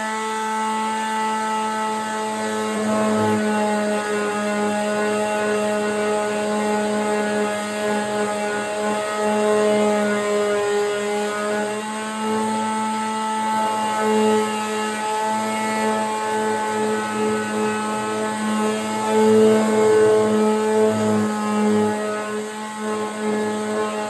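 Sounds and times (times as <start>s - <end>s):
electric power sander running: 0.0s - 24.0s.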